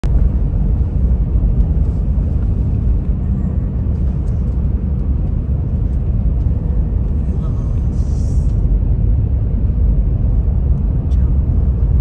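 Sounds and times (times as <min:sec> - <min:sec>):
car driving at speed: 0:00.0 - 0:12.0.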